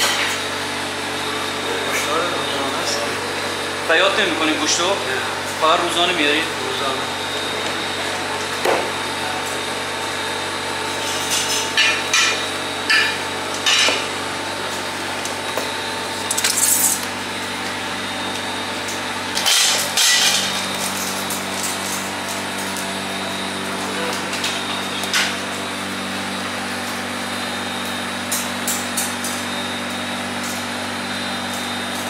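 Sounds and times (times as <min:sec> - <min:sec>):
electric machine hum: 0:00.0 - 0:32.0.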